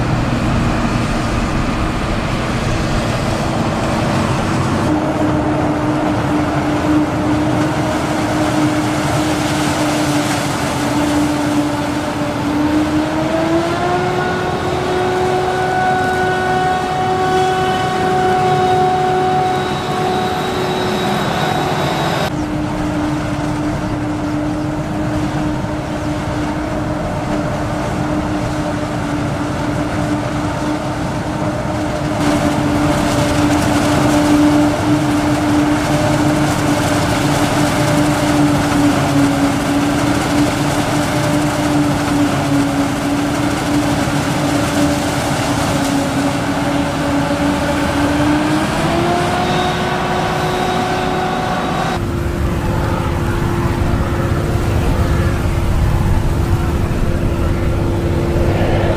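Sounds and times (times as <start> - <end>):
harvester mechanical hum: 0.0 - 58.9.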